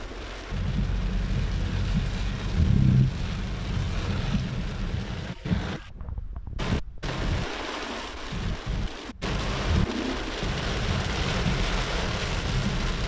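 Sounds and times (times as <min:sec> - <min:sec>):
heavy rain on a car: 0:00.0 - 0:05.9, 0:06.6 - 0:13.0
car rumbling on wet road: 0:00.0 - 0:13.0.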